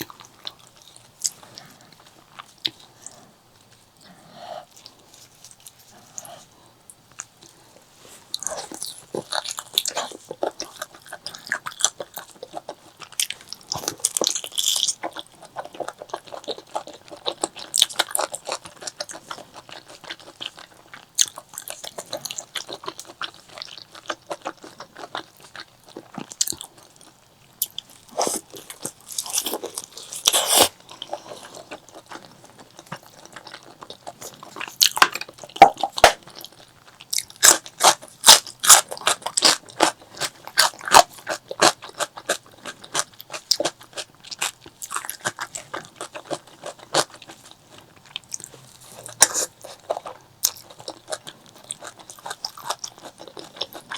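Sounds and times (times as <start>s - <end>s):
chewing with wet clicks: 0.0s - 4.1s, 4.7s - 7.6s, 8.4s - 53.9s.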